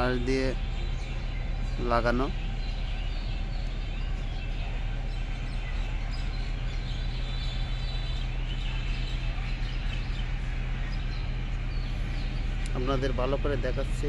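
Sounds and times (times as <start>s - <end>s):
birds chirping: 0.0s - 14.0s
low hum: 0.0s - 14.0s
outdoor background rumble: 0.0s - 14.0s.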